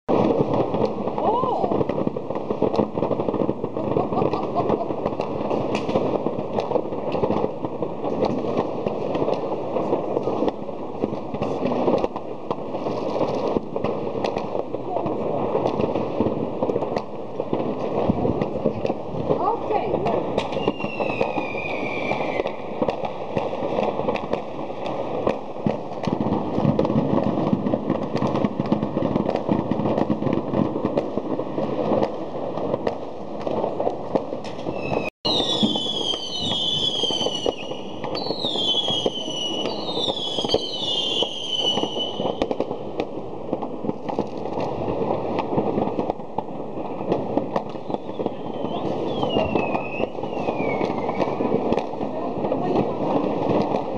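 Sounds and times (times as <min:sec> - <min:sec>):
distant fireworks bangs: 0:00.1 - 0:53.9
firecrackers crackling: 0:00.1 - 0:53.9
whistling fireworks shrieking: 0:00.1 - 0:53.9.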